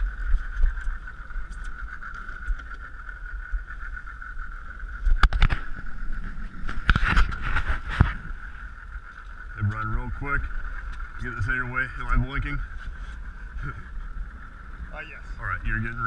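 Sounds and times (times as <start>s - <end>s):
outboard motor idling: 0.0s - 16.0s
wind and water noise: 0.0s - 16.0s.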